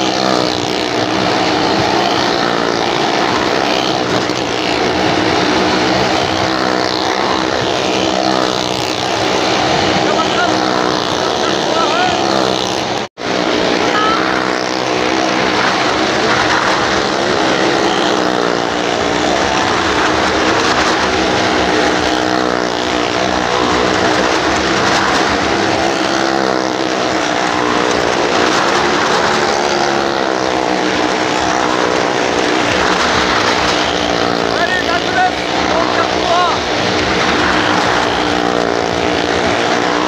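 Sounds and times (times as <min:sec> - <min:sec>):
car and motorcycle engines droning: 0:00.0 - 0:40.0.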